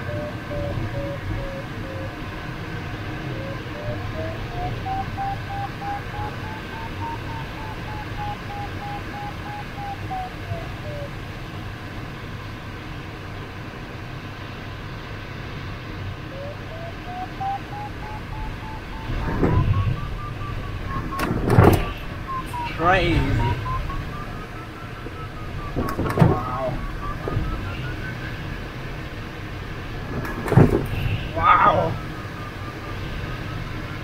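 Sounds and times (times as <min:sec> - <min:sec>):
variometer beeping: 0:00.0 - 0:11.3, 0:16.3 - 0:34.0
cockpit airflow noise: 0:00.0 - 0:12.0, 0:15.4 - 0:34.0.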